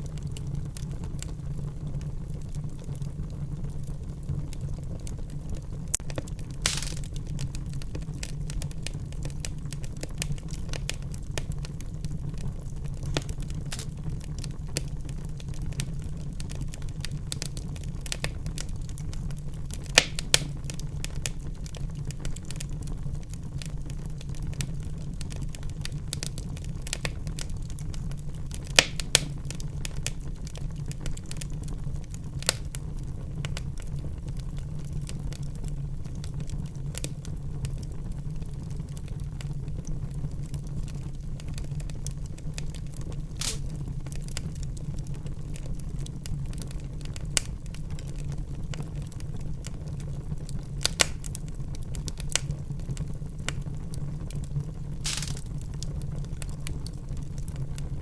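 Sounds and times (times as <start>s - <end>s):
low fire rumble: 0.0s - 58.0s
wood fire crackling: 0.0s - 58.0s
loud fire pops: 5.3s - 33.8s, 34.6s - 57.8s.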